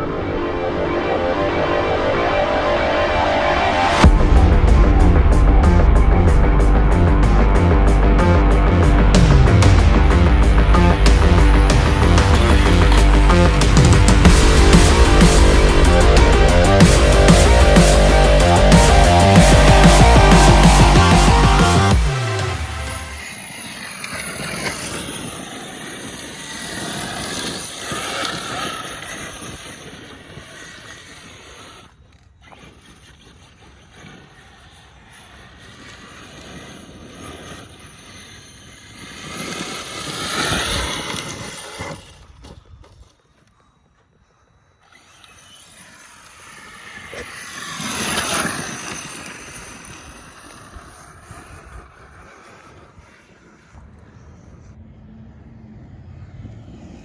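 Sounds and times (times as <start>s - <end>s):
electric motor whining: 0.0s - 54.4s
tyres on gravel: 0.0s - 54.7s.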